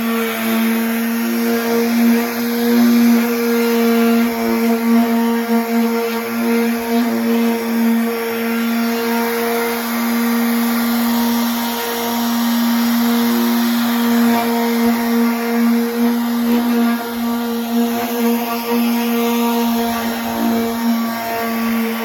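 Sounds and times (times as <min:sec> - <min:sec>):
power sander on metal: 0:00.0 - 0:22.0.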